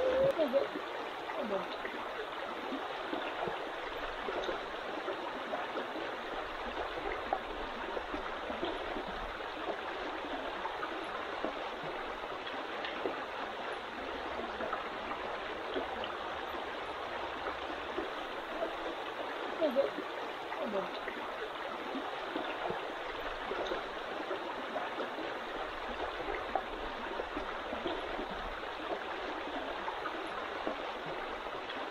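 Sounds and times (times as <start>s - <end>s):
stream water rushing: 0.0s - 31.9s.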